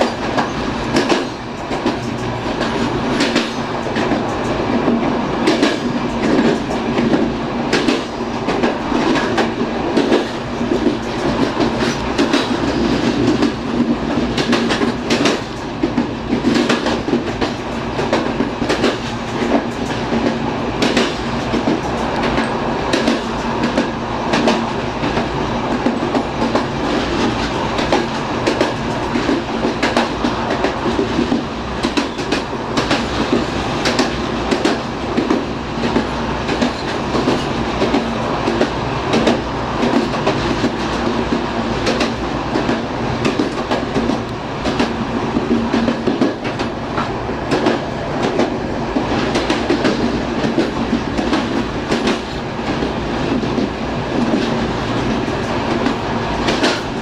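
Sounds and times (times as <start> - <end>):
train running hum: 0.0 - 57.0.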